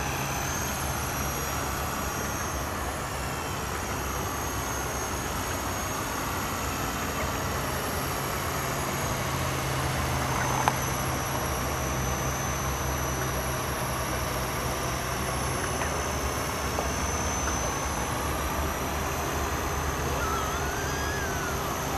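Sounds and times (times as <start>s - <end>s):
high motor whine: 0.0s - 21.9s
model helicopter rotors whirring: 0.0s - 21.9s.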